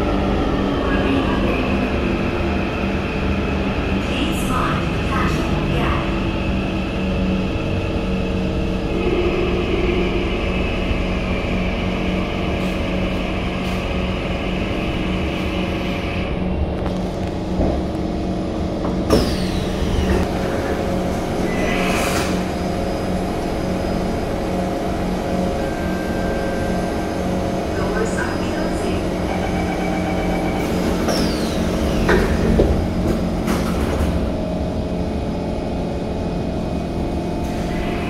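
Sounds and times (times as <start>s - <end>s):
train electric hum and whine: 0.0s - 38.0s.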